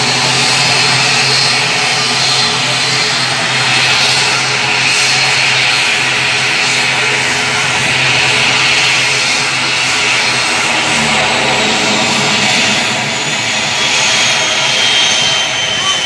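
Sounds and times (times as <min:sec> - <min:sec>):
turboprop engines humming and whining: 0:00.0 - 0:16.0.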